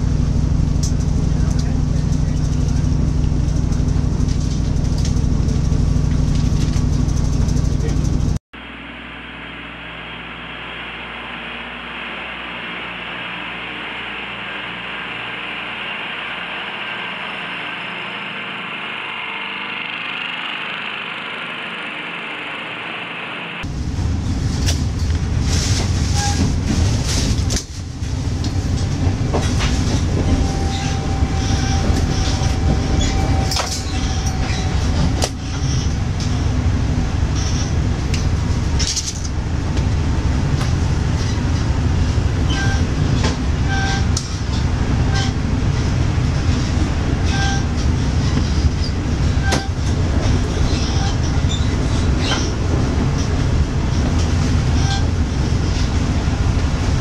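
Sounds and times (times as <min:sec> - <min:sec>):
wheels rumbling on rail: 0:00.0 - 0:57.0.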